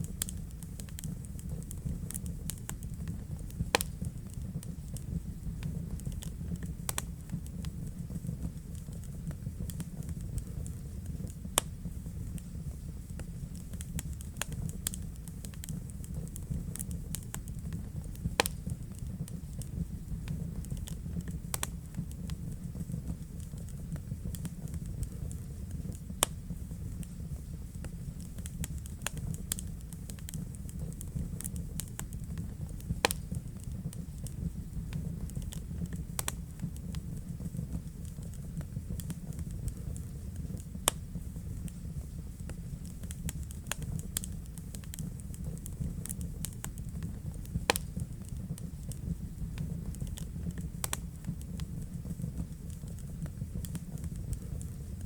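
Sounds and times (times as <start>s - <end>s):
fire crackling in fireplace: 0.0s - 55.0s
fire snapping: 0.0s - 55.0s.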